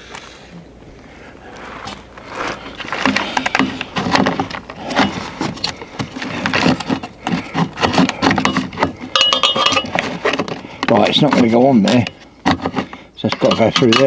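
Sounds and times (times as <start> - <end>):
scraping on gravel: 0.0 - 14.0.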